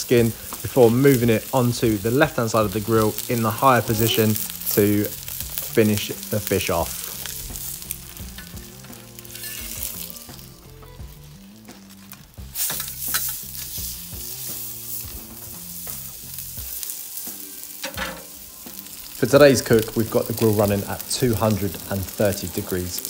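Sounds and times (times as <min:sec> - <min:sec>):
fish sizzling on stone: 0:00.0 - 0:23.0
low background music: 0:00.0 - 0:23.0.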